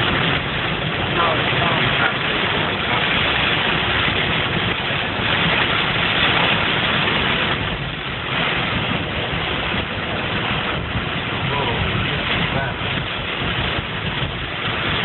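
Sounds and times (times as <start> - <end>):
car engine running: 0.0 - 15.0
dense rushing noise: 0.0 - 15.0.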